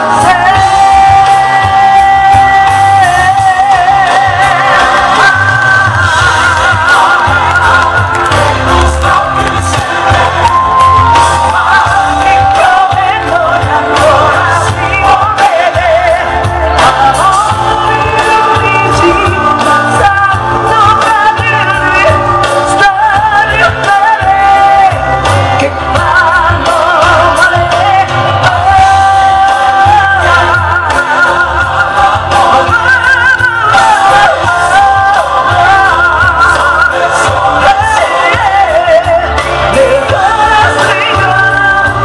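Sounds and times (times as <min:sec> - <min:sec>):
woman singing into microphone: 0:00.0 - 0:42.0.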